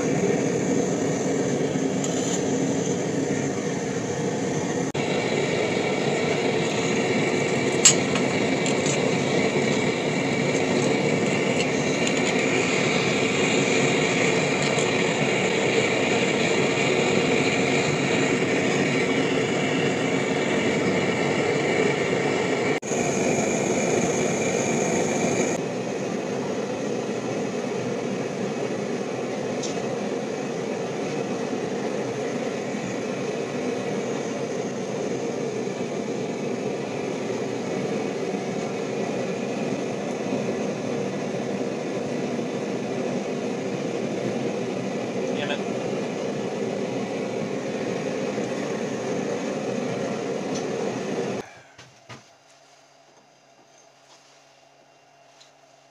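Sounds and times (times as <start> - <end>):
gas forge burner roaring: 0.0 - 55.9.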